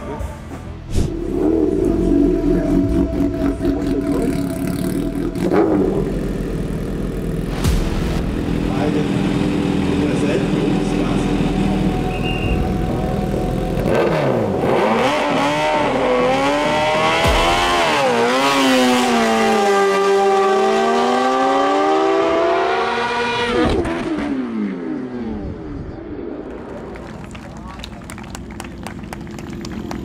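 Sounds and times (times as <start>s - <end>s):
racing motorcycles accelerating: 1.0s - 25.6s.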